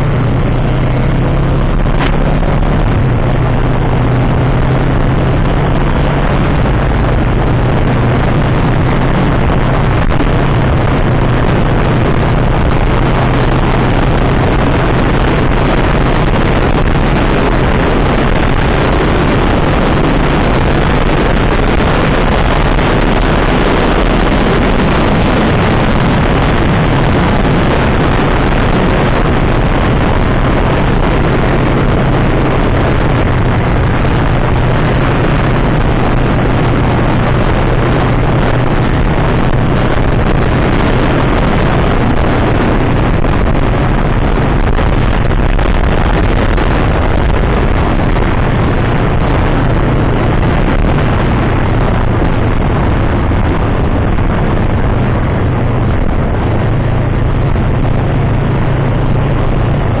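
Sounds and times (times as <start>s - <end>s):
motorcycle engine hum: 0.0s - 60.0s
wind rushing over microphone: 0.0s - 60.0s.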